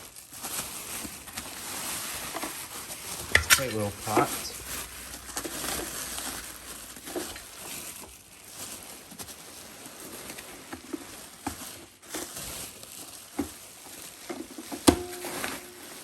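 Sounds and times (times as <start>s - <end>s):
packing material rustling: 0.0s - 16.0s.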